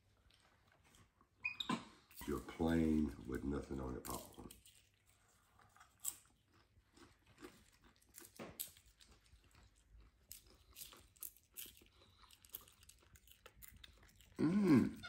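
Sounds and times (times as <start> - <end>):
popcorn being chewed: 0.0 - 1.4, 2.0 - 15.0.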